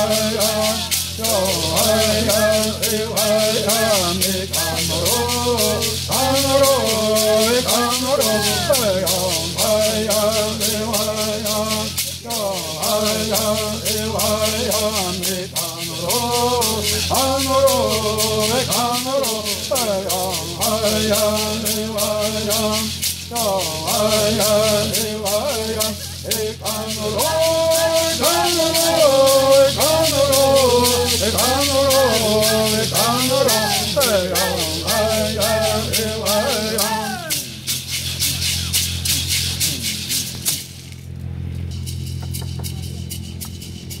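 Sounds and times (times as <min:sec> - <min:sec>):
people singing: 0:00.0 - 0:37.6
gourd rattles shaking: 0:00.0 - 0:44.0.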